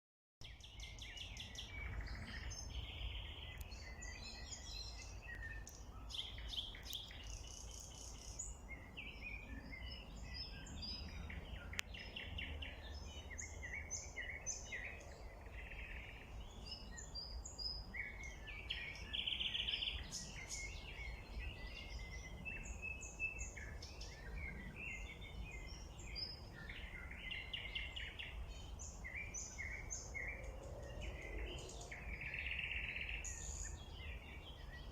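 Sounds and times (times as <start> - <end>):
birds singing and calling: 0.4 - 34.9.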